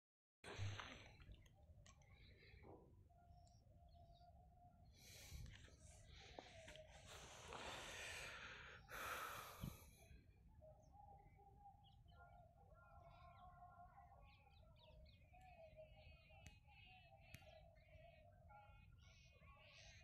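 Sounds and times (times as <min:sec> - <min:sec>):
faint bird chirps and trills: 0:00.5 - 0:20.0.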